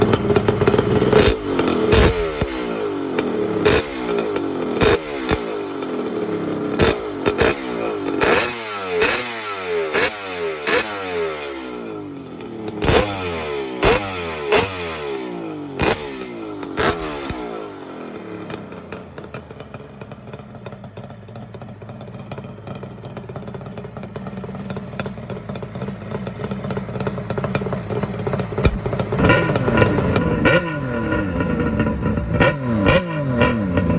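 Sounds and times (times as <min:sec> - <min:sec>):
two-stroke motorcycle engine revving: 0:00.0 - 0:33.9.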